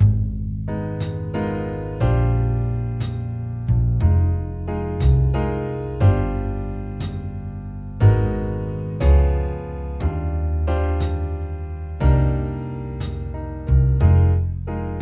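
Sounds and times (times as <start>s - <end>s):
bass line: 0.0s - 15.0s
piano chords: 0.0s - 15.0s
slow jazz backing track: 0.0s - 15.0s.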